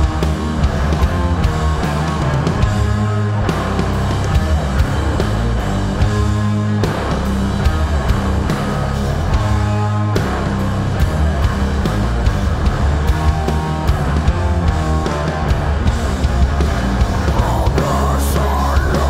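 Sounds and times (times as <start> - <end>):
metal band playing live: 0.0 - 19.0.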